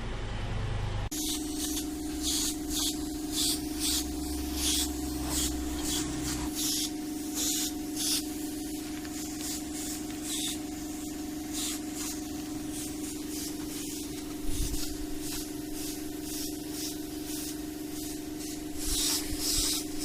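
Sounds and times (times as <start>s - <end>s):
steady hum: 0.0s - 20.0s
paint spraying hiss: 1.1s - 20.0s.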